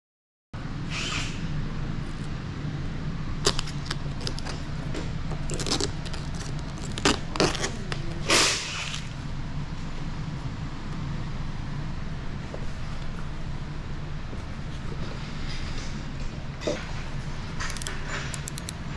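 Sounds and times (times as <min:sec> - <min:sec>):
steady low hum: 0:00.6 - 0:18.9.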